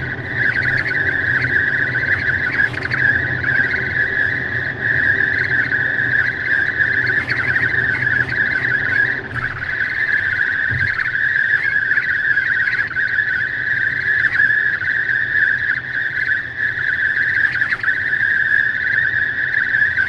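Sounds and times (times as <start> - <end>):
high-pitched wind whistle: 0.0 - 20.0
low road noise rumble: 0.0 - 20.0.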